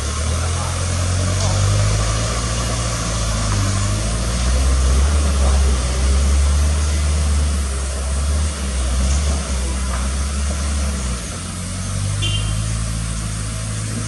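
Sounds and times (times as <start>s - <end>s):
dump truck diesel engine rumbling: 0.0s - 14.0s.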